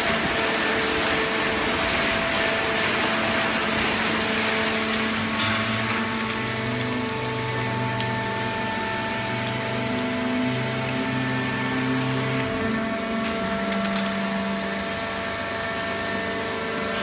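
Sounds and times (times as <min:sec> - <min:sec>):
baling press machine hum: 0:00.0 - 0:17.0.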